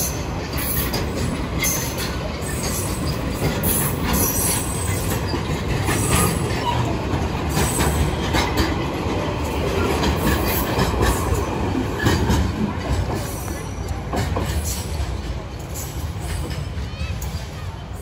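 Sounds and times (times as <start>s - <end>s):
train wheel clicks and knocks: 0.0s - 16.9s
train wheels rumbling on rails: 0.0s - 18.0s.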